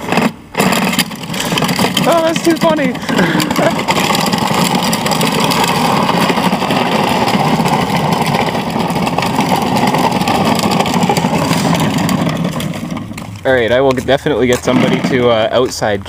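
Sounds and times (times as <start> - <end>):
toy truck motor and wheels: 0.0 - 15.8.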